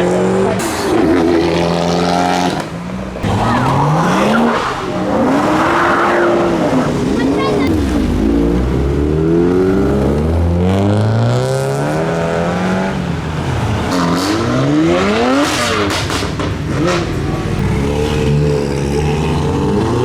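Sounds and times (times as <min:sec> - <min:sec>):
car engines revving and accelerating: 0:00.0 - 0:20.0.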